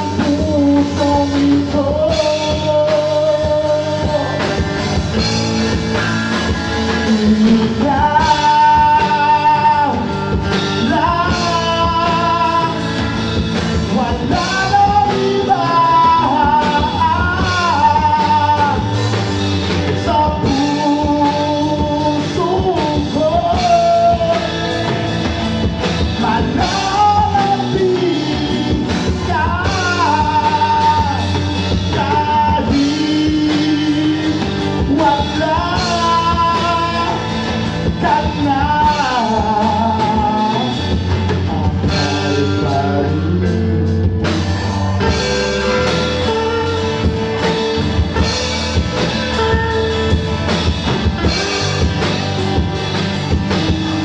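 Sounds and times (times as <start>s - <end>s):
acoustic and electric guitars: 0.0s - 54.0s
man singing: 0.0s - 54.0s.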